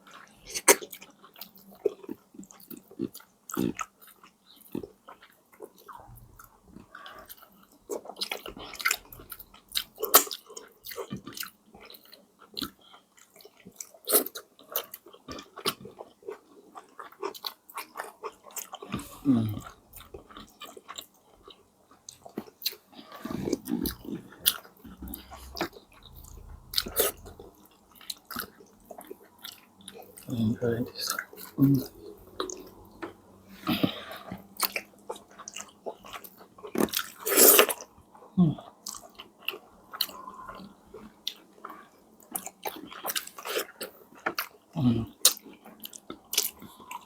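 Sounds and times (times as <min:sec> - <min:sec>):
chewing and biting food: 0:00.0 - 0:47.0.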